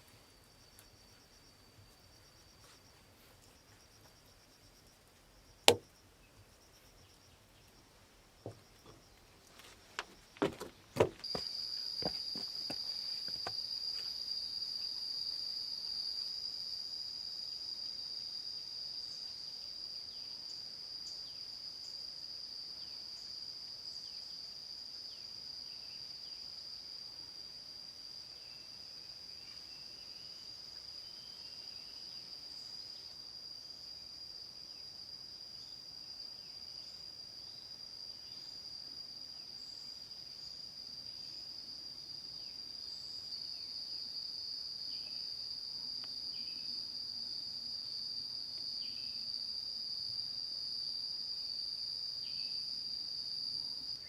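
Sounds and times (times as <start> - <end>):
jungle insects droning: 0.0 - 54.0.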